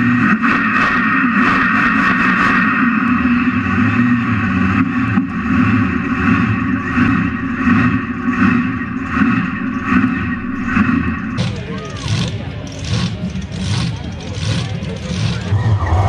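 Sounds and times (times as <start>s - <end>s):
truck engine running loud: 0.0s - 16.0s.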